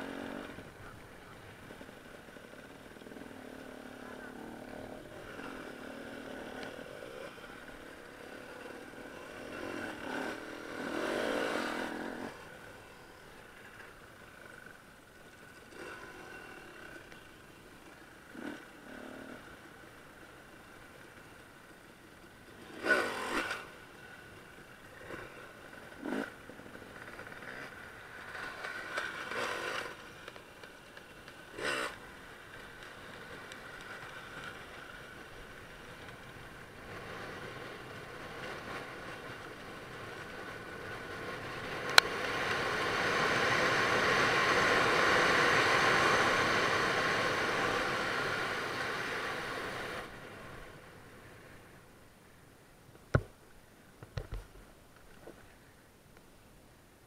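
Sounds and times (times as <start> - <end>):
motorcycle engine running: 0.0 - 50.7.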